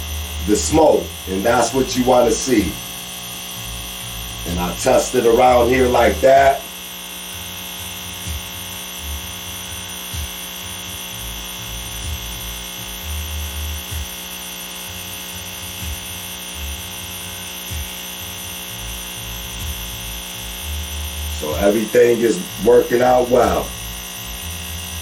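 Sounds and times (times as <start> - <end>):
electric air pump humming: 0.0 - 25.0.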